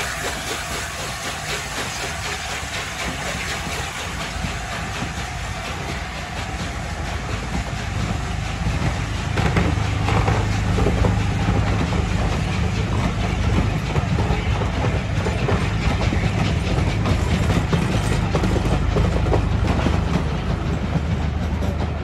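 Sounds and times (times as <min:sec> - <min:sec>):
train rumbling past: 0:00.0 - 0:22.0
wheels clacking over rail joints: 0:00.0 - 0:22.0.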